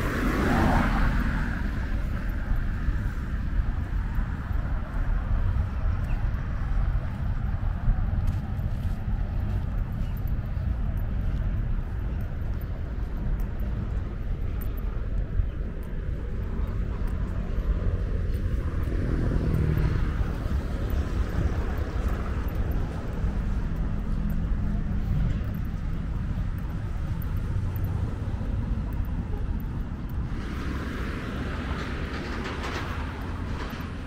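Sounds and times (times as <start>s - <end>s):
vehicle passing: 0.0s - 11.0s, 12.0s - 34.0s
low rumble of road traffic: 0.0s - 34.0s.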